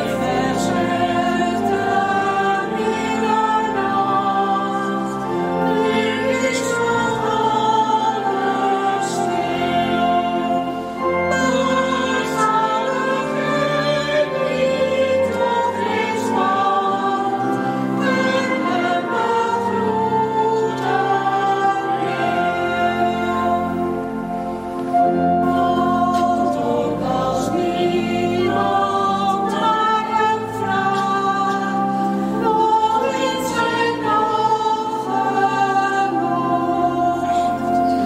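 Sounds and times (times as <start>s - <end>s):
choir singing long notes: 0.0s - 38.0s.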